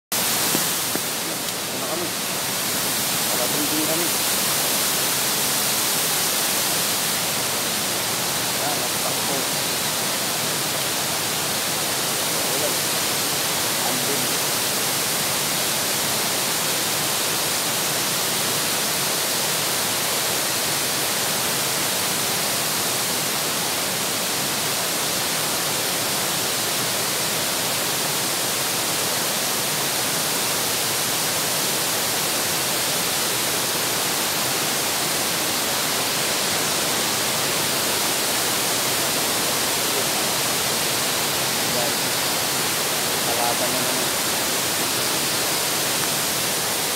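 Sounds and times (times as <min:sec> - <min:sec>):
waterfall roaring: 0:00.1 - 0:46.9.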